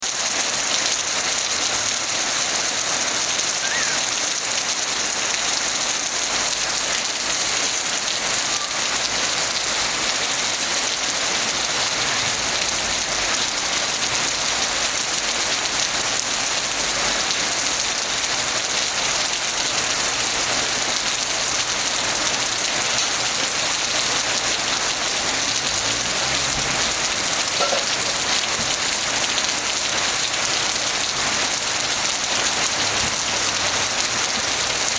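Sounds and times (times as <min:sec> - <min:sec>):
heavy rain hissing: 0:00.0 - 0:34.9.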